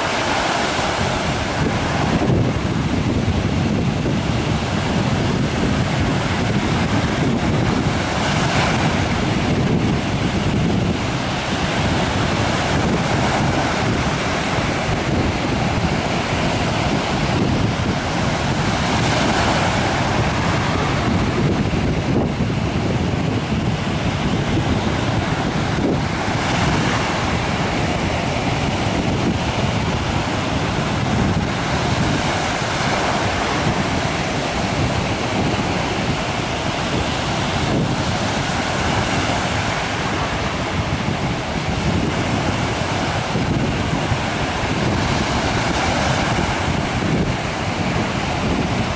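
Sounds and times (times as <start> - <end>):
sea surf breaking on beach: 0.0 - 48.9
wind buffeting microphone: 0.0 - 48.9.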